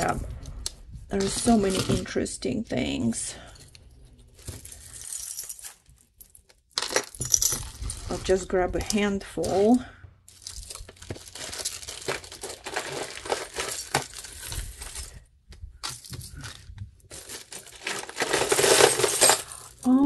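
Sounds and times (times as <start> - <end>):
jewelry rattling and clinking: 1.1 - 2.2, 3.4 - 20.0.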